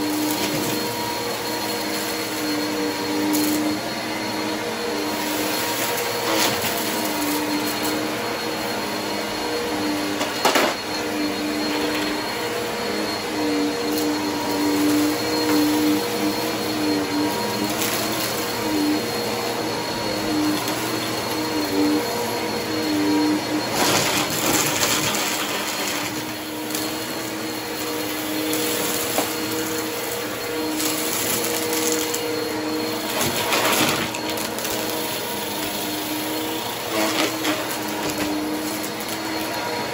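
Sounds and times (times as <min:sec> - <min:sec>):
vacuum cleaners running: 0:00.0 - 0:39.9.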